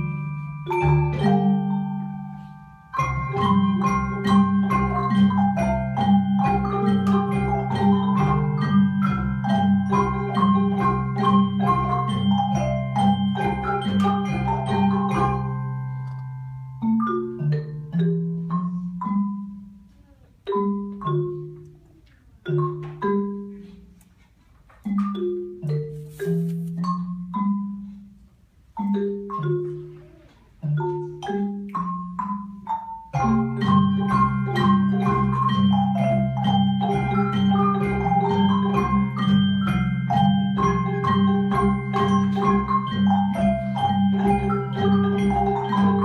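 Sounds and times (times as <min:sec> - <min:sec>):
marimbas and xylophones playing: 0:00.0 - 0:46.0.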